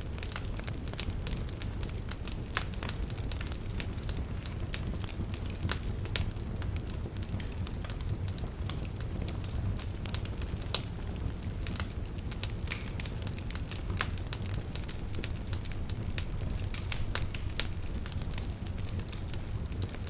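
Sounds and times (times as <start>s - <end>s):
burning wood crackling and popping: 0.0s - 20.0s
flames rumbling: 0.0s - 20.0s.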